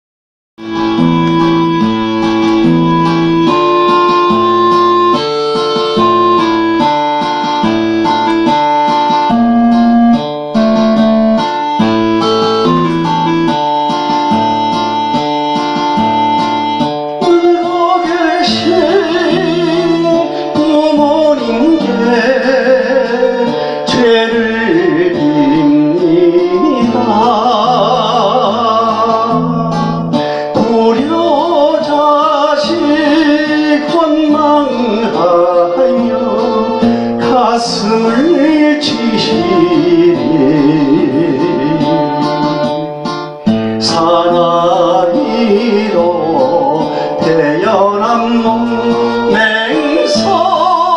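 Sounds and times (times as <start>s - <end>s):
keyboard and guitar accompaniment: 0.6s - 50.9s
person singing with vibrato: 0.6s - 50.9s.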